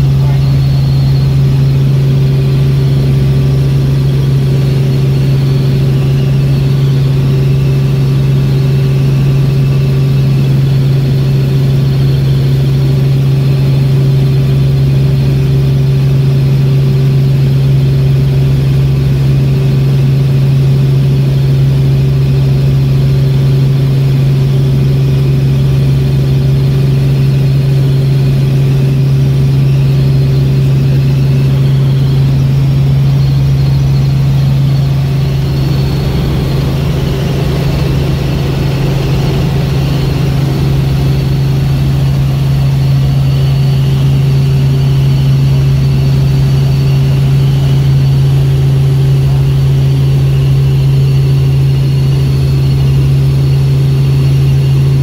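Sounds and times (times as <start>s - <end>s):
helicopter cabin drone: 0.0s - 55.0s.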